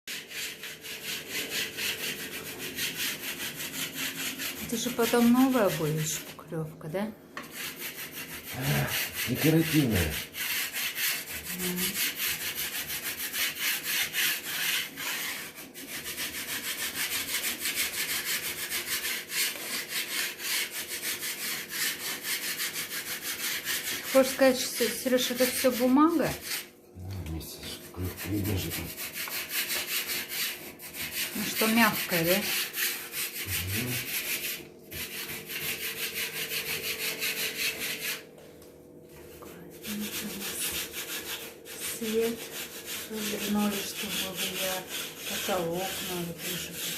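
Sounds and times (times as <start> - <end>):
hand scraping wall: 0.1 - 6.3, 7.4 - 26.7, 27.6 - 38.2, 39.1 - 46.9.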